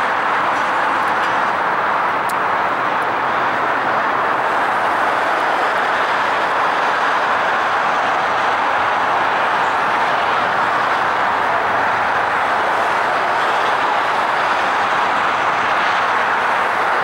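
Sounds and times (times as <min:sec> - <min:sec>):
distant diesel freight train: 0:00.0 - 0:17.0
road traffic hiss: 0:00.0 - 0:17.0.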